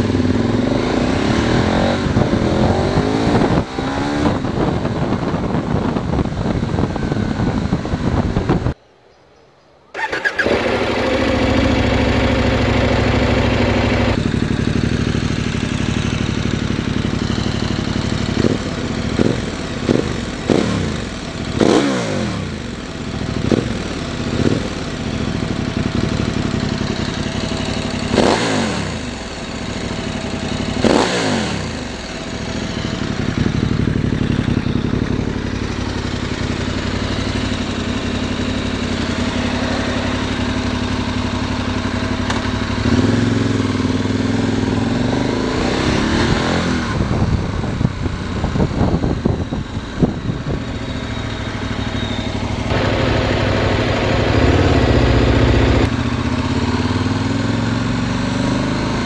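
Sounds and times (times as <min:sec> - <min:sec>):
motorcycle engine revving: 0:00.0 - 0:08.8, 0:10.0 - 0:59.0.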